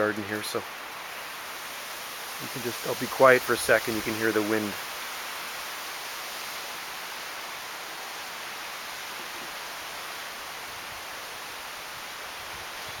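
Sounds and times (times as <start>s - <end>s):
strong wind through trees: 0.0s - 13.0s.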